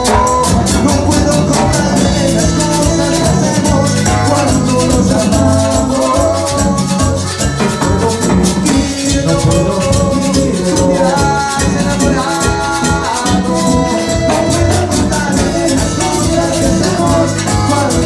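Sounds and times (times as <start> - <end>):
drum percussion: 0.0 - 18.0
latin band playing: 0.0 - 18.0
shaker percussion: 0.0 - 18.0.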